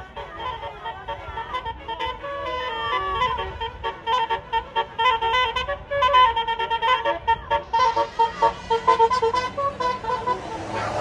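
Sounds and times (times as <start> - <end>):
bus multi-tone horn tune: 0.0 - 11.0.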